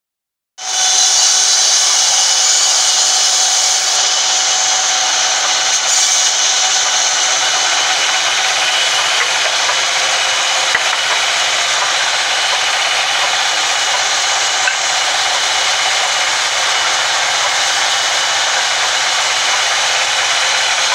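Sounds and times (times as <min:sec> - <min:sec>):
band saw cutting timber: 0:00.6 - 0:20.9.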